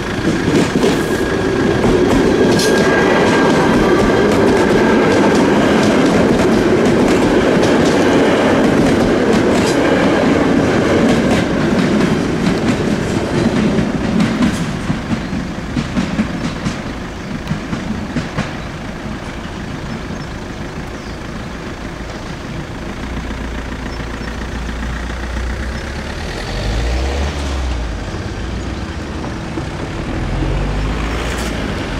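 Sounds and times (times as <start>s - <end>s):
train rumble: 0.0s - 31.9s
train wheels clicking over rail joints: 0.0s - 31.9s.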